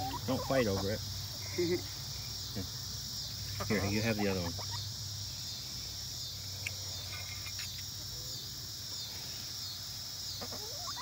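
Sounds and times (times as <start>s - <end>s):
chickens clucking: 0.0s - 11.0s
crickets chirping: 0.0s - 11.0s.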